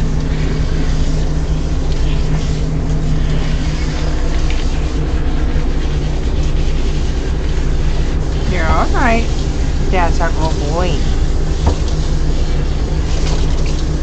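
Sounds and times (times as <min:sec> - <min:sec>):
electric motor humming: 0:00.0 - 0:13.8
water spraying: 0:00.0 - 0:14.0.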